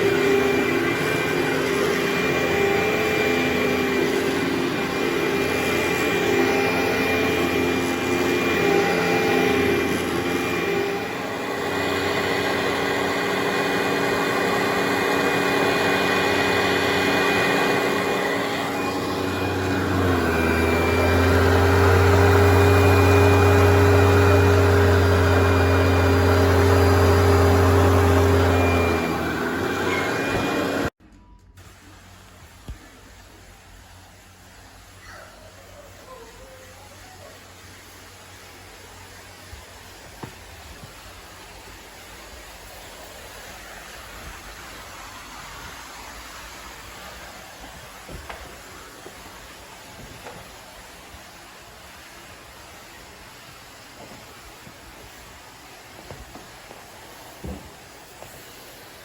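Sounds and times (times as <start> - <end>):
carpet cleaning machine drone: 0.0 - 31.0, 32.2 - 59.0.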